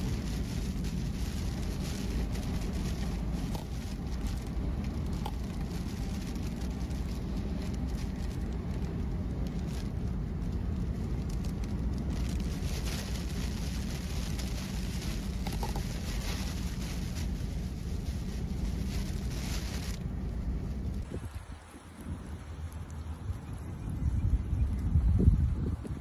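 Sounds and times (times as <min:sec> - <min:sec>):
vehicle rumble on road: 0:00.0 - 0:26.0
wind and rain hiss: 0:00.0 - 0:26.0.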